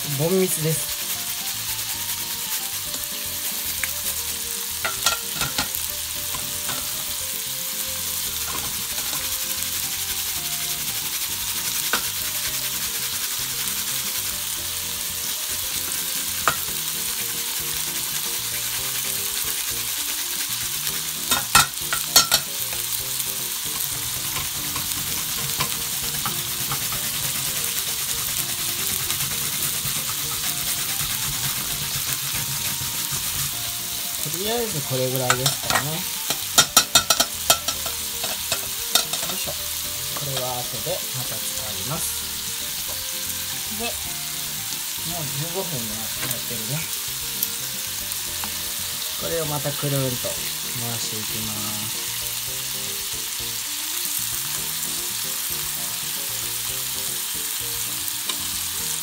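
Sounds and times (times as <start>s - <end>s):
meat rolls sizzling in pan: 0.0s - 59.0s.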